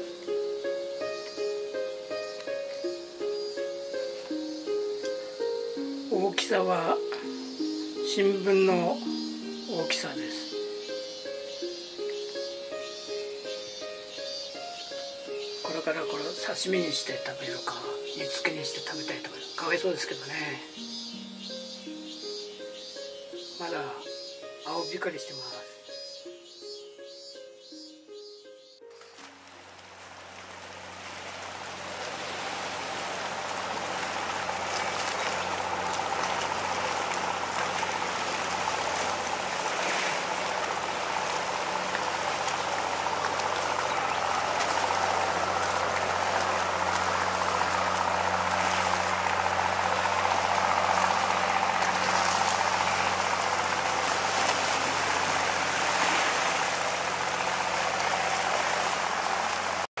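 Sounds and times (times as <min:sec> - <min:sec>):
rushing water: 0:00.0 - 0:22.0, 0:28.9 - 1:00.0.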